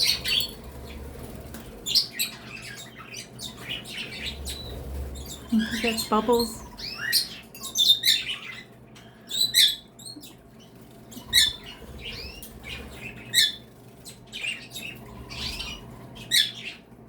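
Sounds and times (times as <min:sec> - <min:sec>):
pet birds chirping and whistling: 0:00.0 - 0:16.9.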